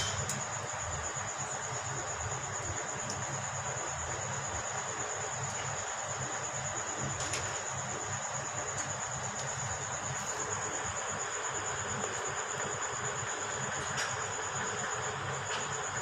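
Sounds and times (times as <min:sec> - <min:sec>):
high-pitched insect trill: 0:00.0 - 0:16.0.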